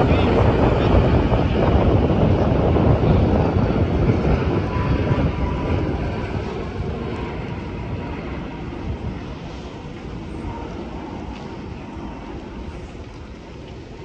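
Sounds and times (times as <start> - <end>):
jet airliner engines rumbling: 0.0 - 14.0.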